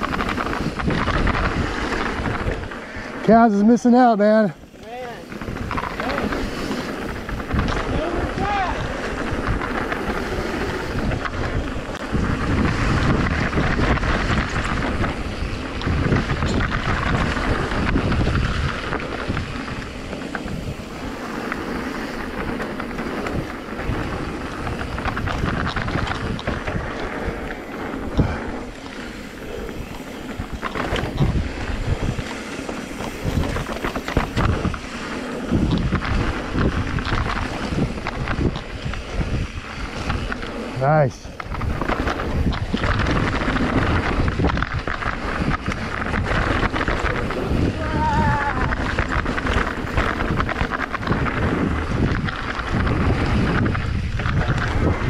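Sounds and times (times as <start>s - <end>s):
bike tyre rumble on dirt: 0.0s - 55.0s
wind buffeting microphone: 0.0s - 55.0s
bike knocking: 4.6s - 40.7s, 41.3s - 55.0s.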